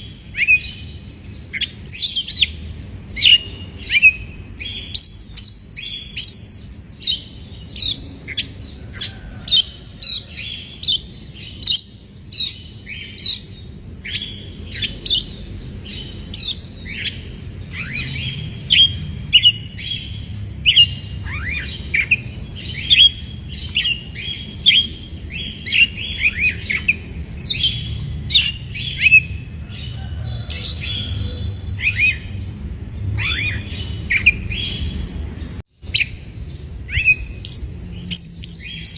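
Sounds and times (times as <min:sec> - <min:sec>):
bird chirping and whistling: 0:00.0 - 0:08.6, 0:09.5 - 0:29.4, 0:30.5 - 0:32.5, 0:33.1 - 0:35.0, 0:35.9 - 0:38.9.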